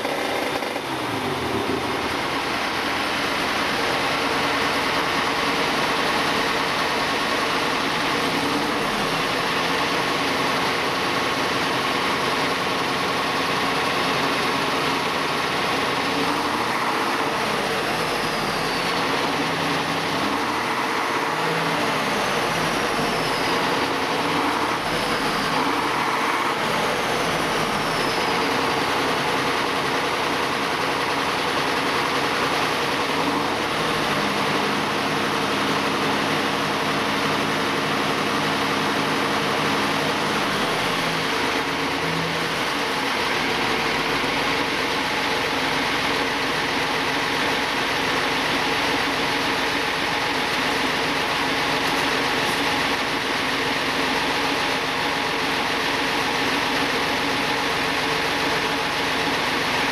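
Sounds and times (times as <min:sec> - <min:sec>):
diesel tractor engine revving: 0:00.0 - 0:59.9.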